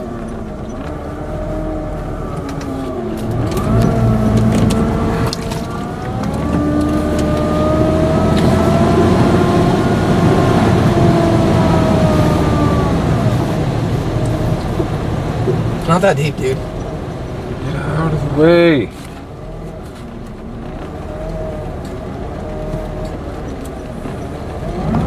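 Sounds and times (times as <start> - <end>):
vehicle engine accelerating: 0.0 - 25.0
water and rain noise: 0.0 - 25.0.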